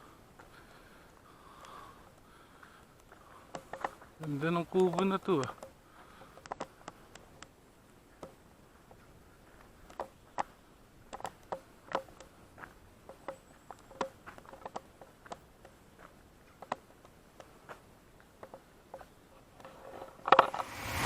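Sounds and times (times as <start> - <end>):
light taps and clicks: 1.1 - 19.7.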